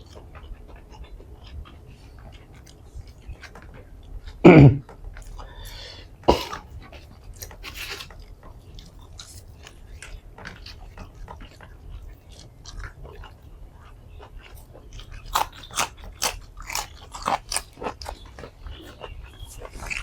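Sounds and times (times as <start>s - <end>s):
food crunching: 0.0s - 20.0s
person chewing food: 0.0s - 20.0s.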